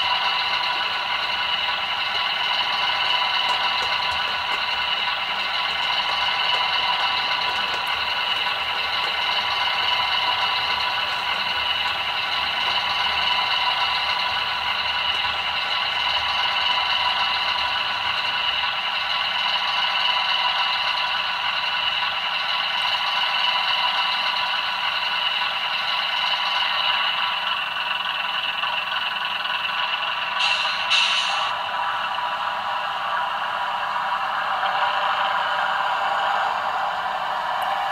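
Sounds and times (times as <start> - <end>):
model wheels rattling on track: 0.0 - 30.6
model diesel engine sound: 0.0 - 37.9.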